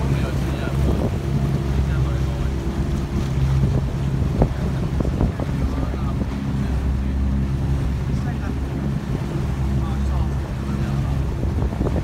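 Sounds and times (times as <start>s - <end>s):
boat motor running: 0.0s - 12.0s
water rushing along hull: 0.0s - 12.0s
wind on microphone: 0.0s - 12.0s.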